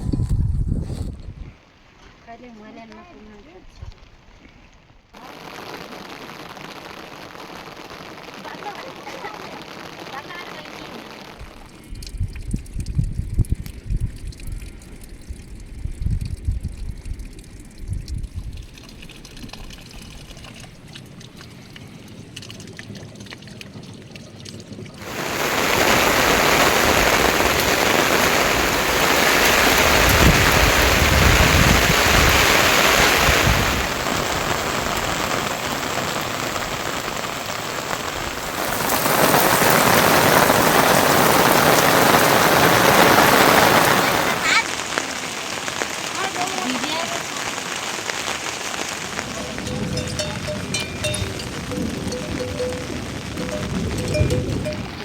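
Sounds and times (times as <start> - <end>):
rain falling: 5.0 - 55.0.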